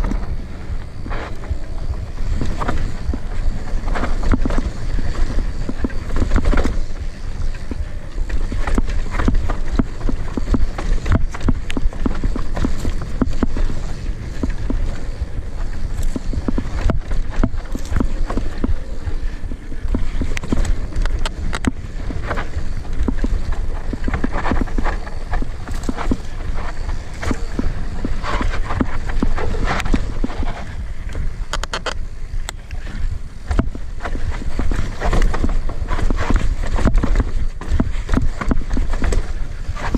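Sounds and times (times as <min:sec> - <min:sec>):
footsteps crunching on dirt: 0:00.0 - 0:30.8, 0:33.1 - 0:39.9
wind rumble on microphone: 0:00.0 - 0:39.9.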